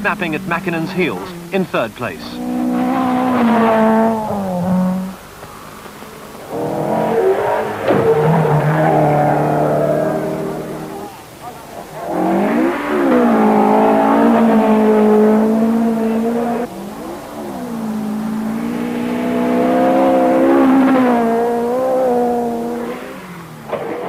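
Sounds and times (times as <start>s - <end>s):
rally car engine revving high: 0.0s - 24.0s.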